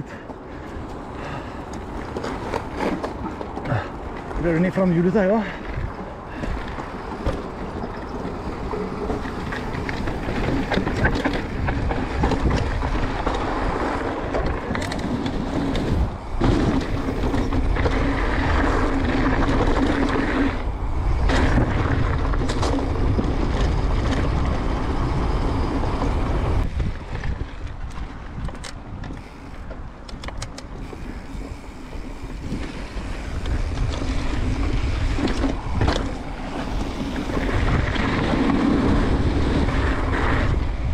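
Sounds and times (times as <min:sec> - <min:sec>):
bike clicks and knocks: 0:00.0 - 0:40.9
bike tyres rolling over ground: 0:00.0 - 0:40.9
wind on microphone: 0:05.6 - 0:40.9.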